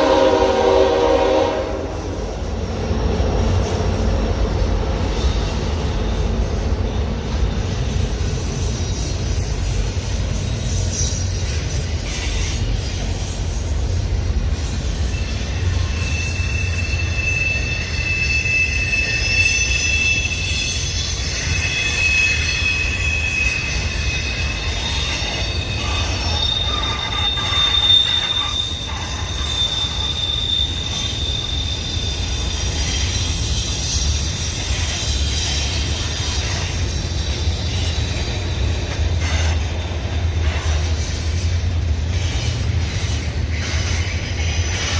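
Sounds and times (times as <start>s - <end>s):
freight train rumbling past: 0.0s - 44.9s
train wheel squeals: 0.0s - 44.9s.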